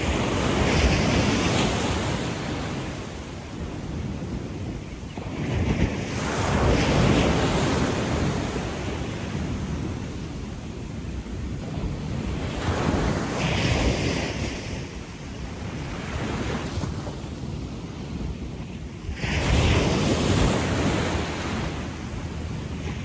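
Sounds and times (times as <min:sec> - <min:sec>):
ocean waves breaking on a beach: 0:00.0 - 0:23.0.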